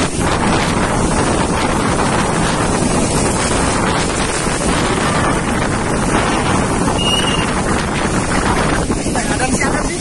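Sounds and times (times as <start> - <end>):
heavy rain: 0.0 - 10.0
storm wind blowing: 0.0 - 10.0.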